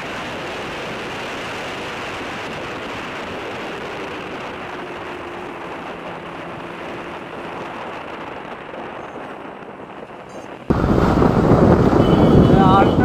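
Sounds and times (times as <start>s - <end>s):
motorcycle wind and road noise: 0.0s - 13.0s.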